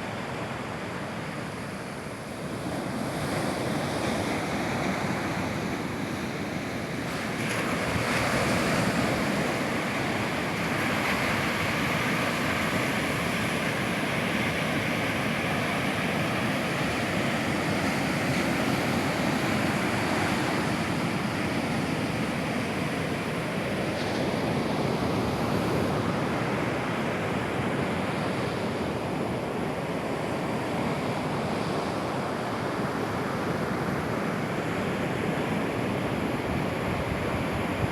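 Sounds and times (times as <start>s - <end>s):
sea waves breaking: 1.5s - 37.9s.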